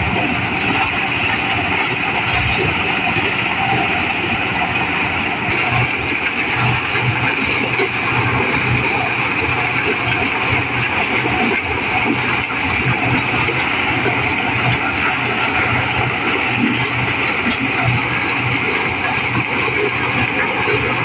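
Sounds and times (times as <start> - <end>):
corn sheller engine running: 0.0 - 21.0.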